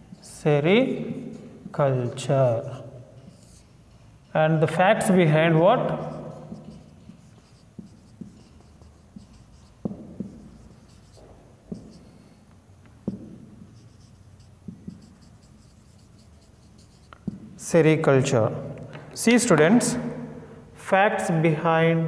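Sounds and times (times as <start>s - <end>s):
marker pen writing on whiteboard: 0.0s - 17.9s.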